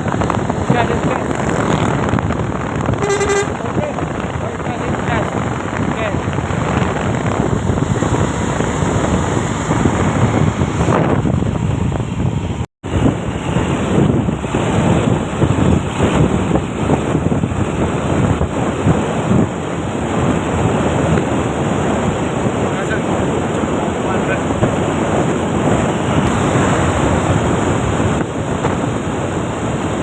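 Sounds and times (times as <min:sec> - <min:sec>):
truck rumble: 0:00.0 - 0:30.0
wind buffeting microphone: 0:00.0 - 0:30.0.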